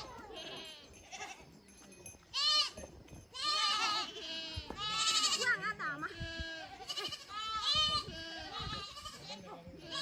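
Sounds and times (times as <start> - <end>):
goats bleating: 0.0 - 1.5, 2.3 - 10.0.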